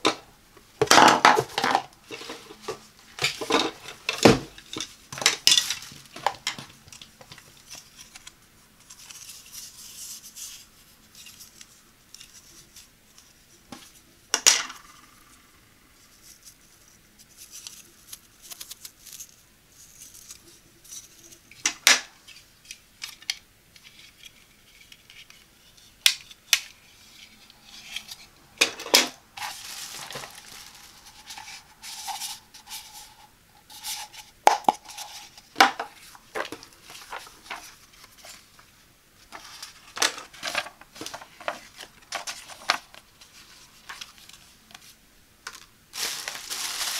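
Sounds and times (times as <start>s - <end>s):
plastic rustling: 0.8s - 15.0s, 16.0s - 46.9s.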